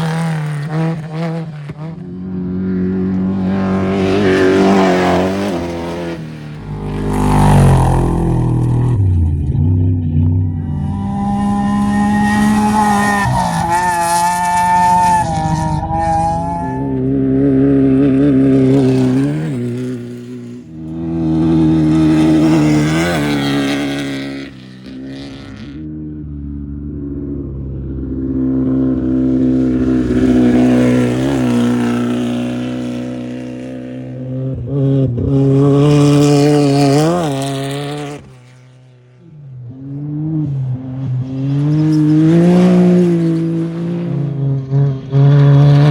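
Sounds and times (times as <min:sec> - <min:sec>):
race vehicles passing at full throttle: 0:00.0 - 0:45.9.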